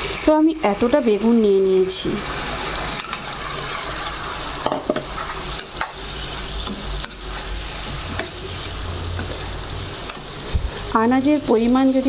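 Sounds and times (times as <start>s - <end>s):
pot sizzling: 0.0s - 12.0s.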